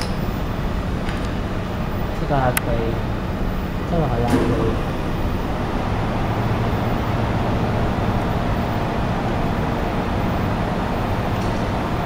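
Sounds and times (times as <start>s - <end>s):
machine hum and hiss: 0.0s - 12.0s.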